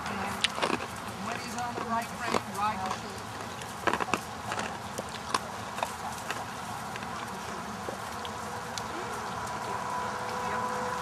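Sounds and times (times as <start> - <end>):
hooves clicking on sand: 0.0 - 11.0
steady outdoor hiss: 0.0 - 11.0.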